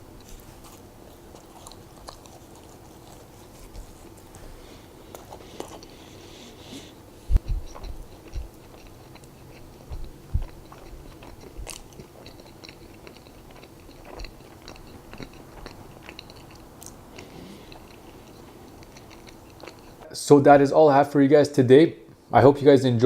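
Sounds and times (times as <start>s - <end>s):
chewing mouth sounds: 0.2s - 6.3s, 7.3s - 20.1s.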